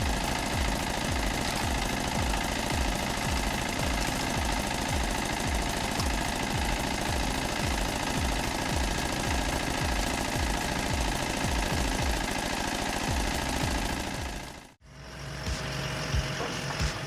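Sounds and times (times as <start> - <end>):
wood chipper chopping wood: 0.0 - 14.8
steady machine hum: 0.0 - 17.0.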